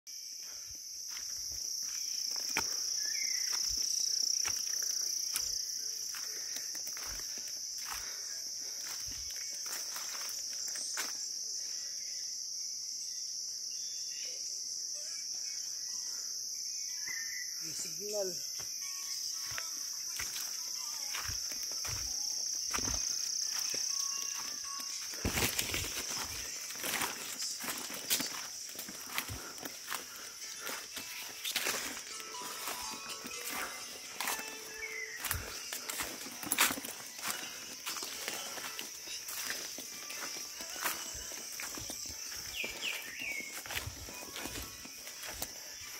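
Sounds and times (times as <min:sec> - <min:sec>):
insects droning: 0:00.1 - 0:45.9
footsteps on dry leaves: 0:00.4 - 0:11.3, 0:19.5 - 0:45.9.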